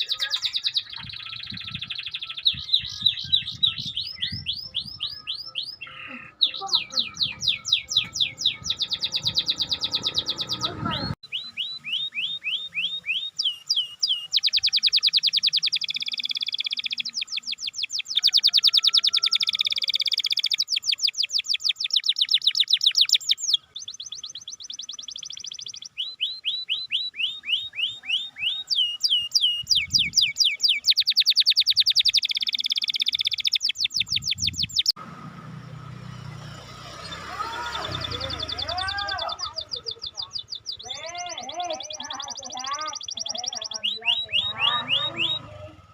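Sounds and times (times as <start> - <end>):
canary singing trills: 0.0 - 35.0, 35.6 - 45.9.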